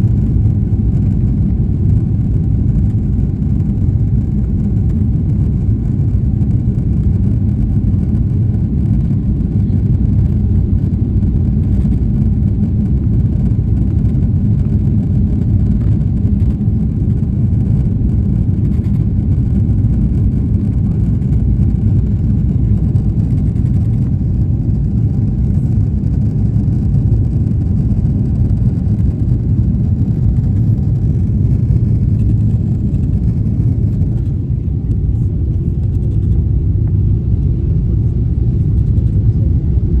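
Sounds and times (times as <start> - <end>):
jet engines at takeoff power: 0.0 - 40.0.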